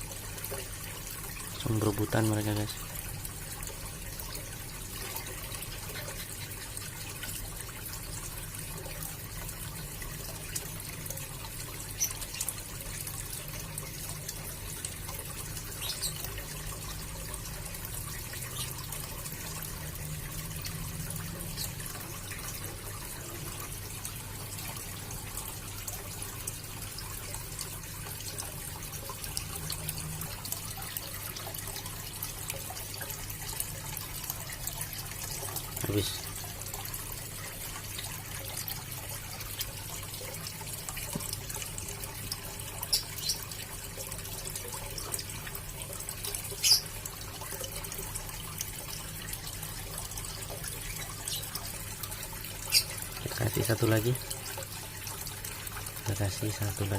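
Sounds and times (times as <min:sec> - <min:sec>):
water trickling into pond: 0:00.0 - 0:56.9.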